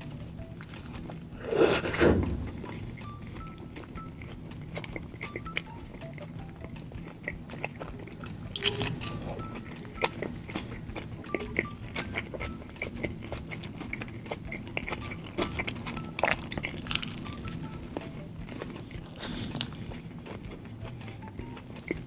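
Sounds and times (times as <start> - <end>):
close-miked biting and chewing: 0.0 - 22.0
soft background music: 0.0 - 22.0
wet mouth clicks: 0.7 - 22.0.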